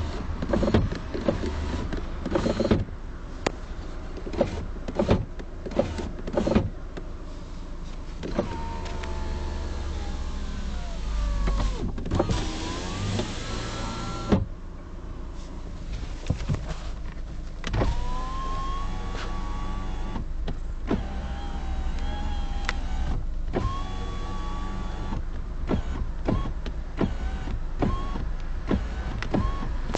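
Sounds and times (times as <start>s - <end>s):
power window motor whining: 0.0s - 2.9s, 4.2s - 6.8s, 8.2s - 14.5s, 17.6s - 29.9s.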